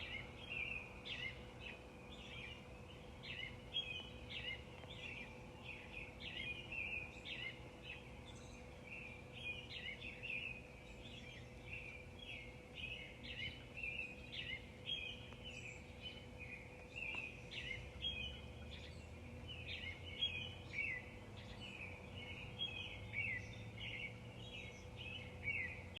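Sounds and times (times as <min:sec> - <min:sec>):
songbirds chirping: 0:00.0 - 0:26.0
thin steady hum: 0:00.0 - 0:26.0.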